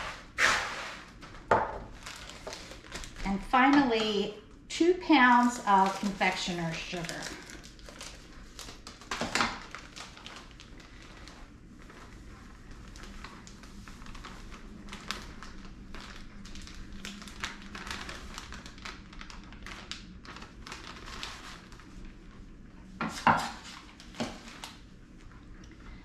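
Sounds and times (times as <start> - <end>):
sugar bag crinkling: 1.8 - 4.3, 5.0 - 22.2, 23.2 - 24.9.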